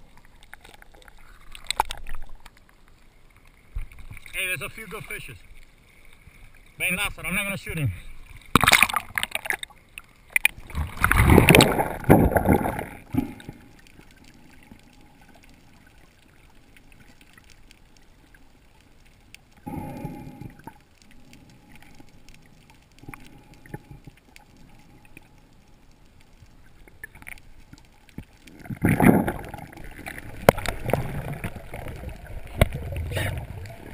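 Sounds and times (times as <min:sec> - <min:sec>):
faint underwater clicks: 0:00.0 - 0:33.9
water splashing and sloshing: 0:00.0 - 0:33.9.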